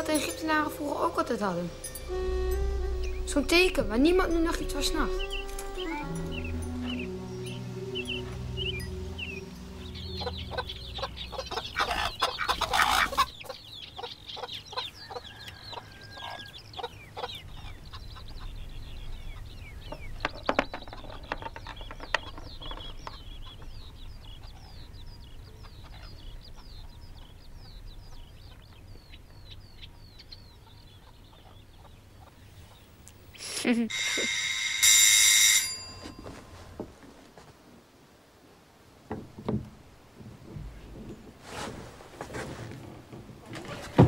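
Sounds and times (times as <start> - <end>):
birds chirping: 0.0 - 36.8.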